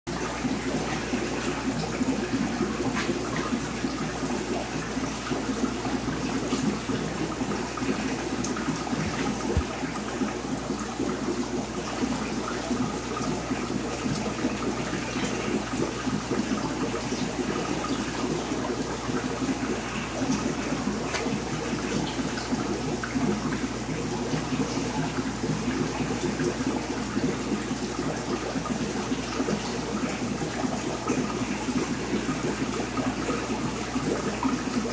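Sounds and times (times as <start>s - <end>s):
aquarium water splashing: 0.1s - 34.9s.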